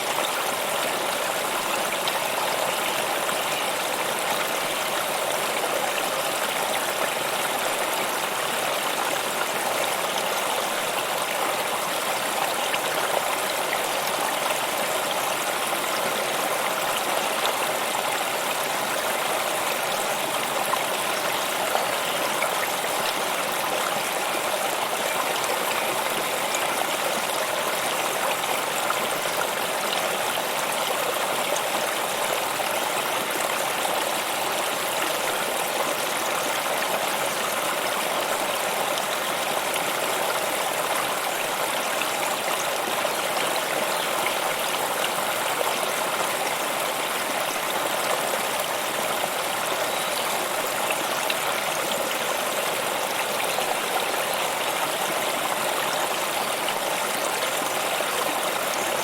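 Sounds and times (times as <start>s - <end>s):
stream water flowing and splashing: 0.0s - 59.0s.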